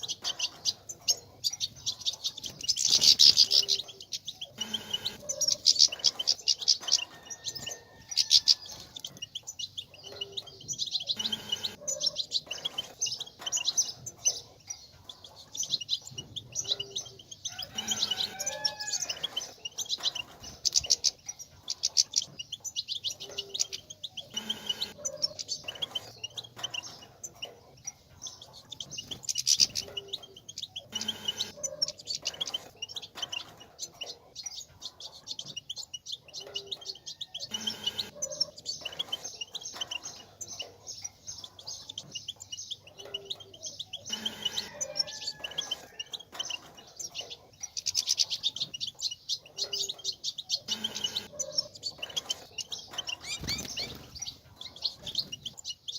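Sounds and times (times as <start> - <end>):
finch twittering: 0.0 - 55.9.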